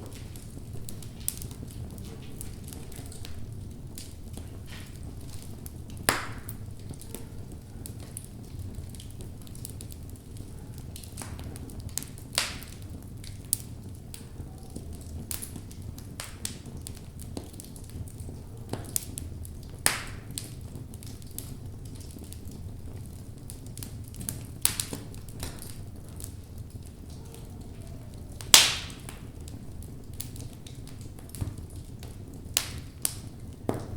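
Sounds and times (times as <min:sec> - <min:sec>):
burning logs crackling and popping: 0:00.0 - 0:33.9
low rumble of flames: 0:00.0 - 0:33.9.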